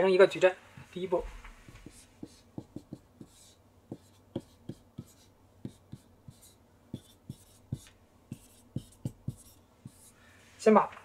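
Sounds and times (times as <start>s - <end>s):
marker pen writing on whiteboard: 0.8s - 10.2s.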